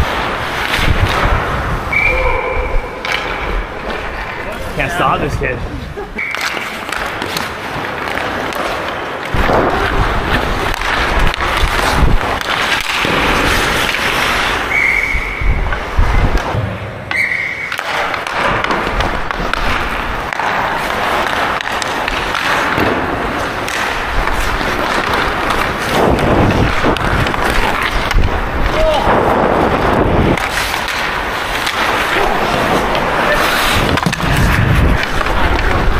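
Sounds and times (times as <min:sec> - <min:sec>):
hockey sticks and puck clacking: 0:00.0 - 0:35.9
skates scraping across ice: 0:00.0 - 0:35.9.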